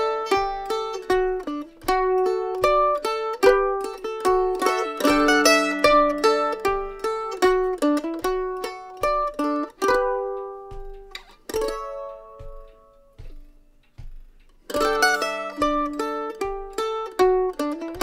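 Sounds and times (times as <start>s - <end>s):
mandolin picked: 0.0s - 18.0s.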